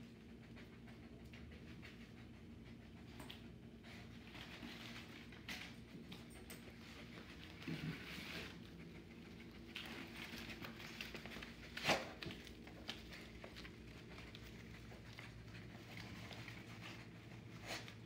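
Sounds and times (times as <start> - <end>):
dog pattering and rustling: 0.1 - 18.0.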